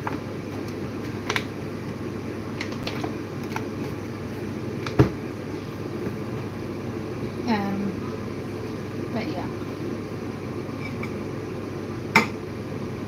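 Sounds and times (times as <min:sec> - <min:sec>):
steady kitchen hum: 0:00.0 - 0:13.0.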